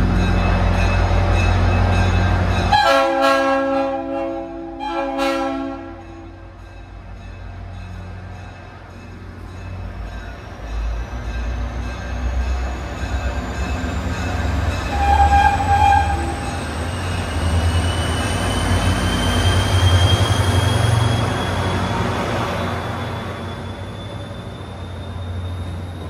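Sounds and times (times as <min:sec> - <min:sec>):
diesel locomotive rumbling: 0:00.0 - 0:26.0.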